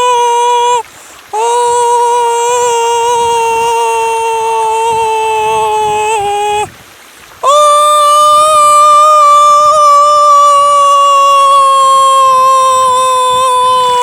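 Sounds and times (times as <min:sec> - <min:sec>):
man holding a loud cry: 0:00.0 - 0:06.7, 0:07.4 - 0:14.0.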